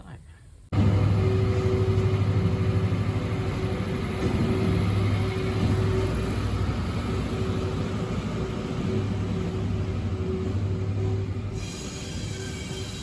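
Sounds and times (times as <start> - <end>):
train rumbling: 0.7 - 13.0.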